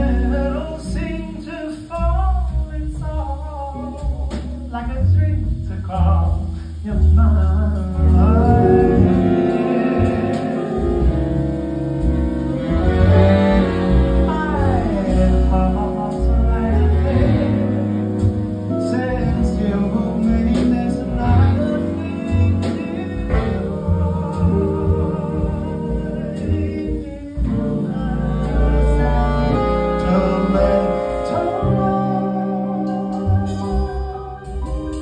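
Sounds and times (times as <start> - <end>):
big band playing: 0.0 - 35.0
deep bass line: 0.0 - 35.0
man singing jazz: 0.0 - 35.0.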